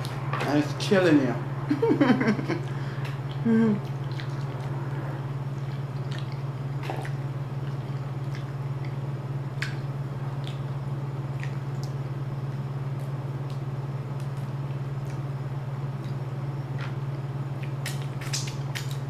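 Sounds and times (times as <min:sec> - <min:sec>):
steady low hum: 0:00.0 - 0:19.0
wet chewing and squishing: 0:02.6 - 0:19.0.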